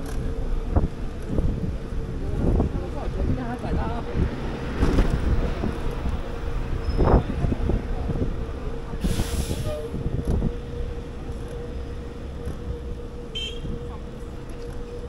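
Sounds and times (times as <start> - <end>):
low rumble of riding: 0.0 - 15.0
wind buffeting microphone: 0.0 - 15.0.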